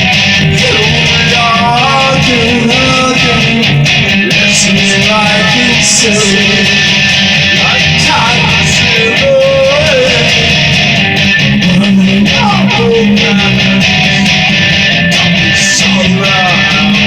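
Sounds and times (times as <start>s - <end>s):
guitar chords strummed: 0.0s - 17.0s.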